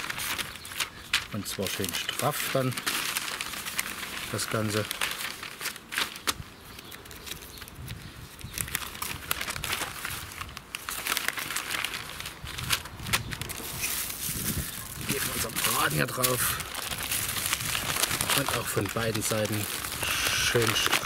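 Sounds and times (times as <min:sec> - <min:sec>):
newspaper rustling and crinkling: 0:00.0 - 0:21.0.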